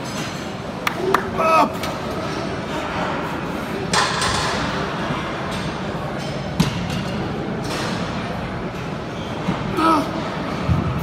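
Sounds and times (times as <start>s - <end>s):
gym room noise: 0.0s - 11.0s.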